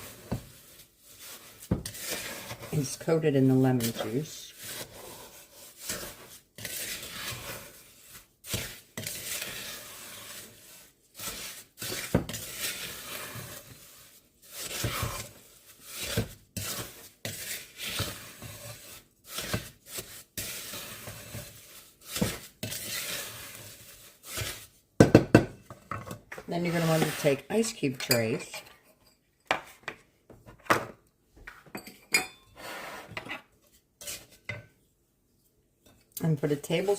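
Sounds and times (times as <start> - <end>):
wooden spoon scraping gritty mix: 0.0 - 24.9, 25.6 - 30.6, 32.5 - 34.6, 35.8 - 36.9.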